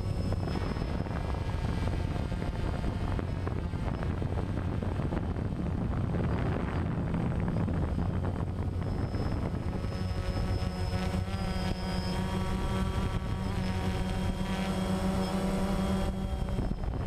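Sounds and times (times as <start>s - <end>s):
drone propellers buzzing: 0.0s - 17.0s
thin high whine: 0.0s - 17.0s
wind on microphone: 0.0s - 17.0s.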